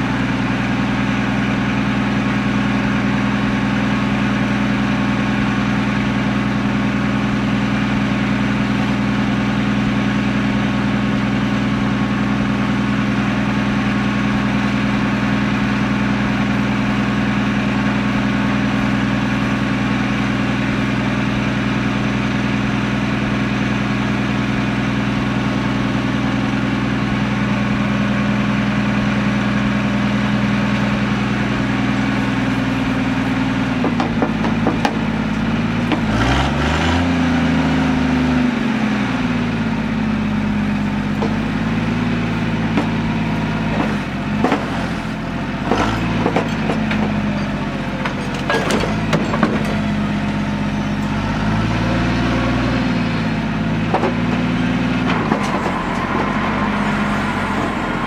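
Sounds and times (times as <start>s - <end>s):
loader engine idling: 0.0s - 58.0s.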